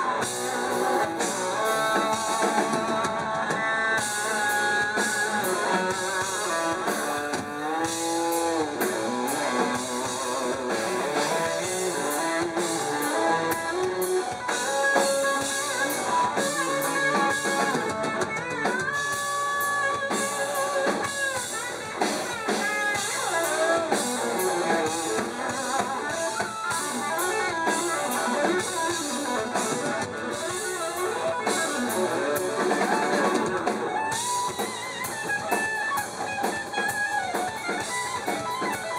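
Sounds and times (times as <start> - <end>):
live rock band: 0.0 - 38.9
wavering lead guitar line: 0.0 - 38.9.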